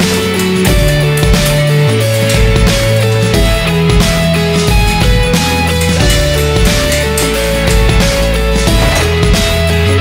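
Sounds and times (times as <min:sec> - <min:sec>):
rock music with electric guitar: 0:00.0 - 0:10.0.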